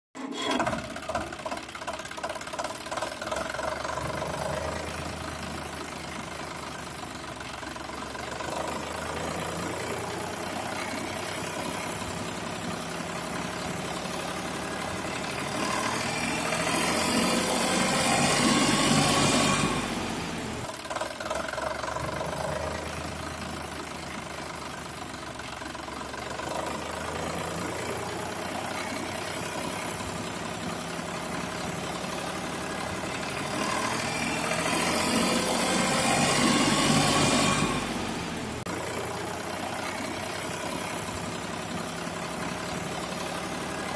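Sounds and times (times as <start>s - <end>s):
tractor engine revving: 0.2s - 43.9s.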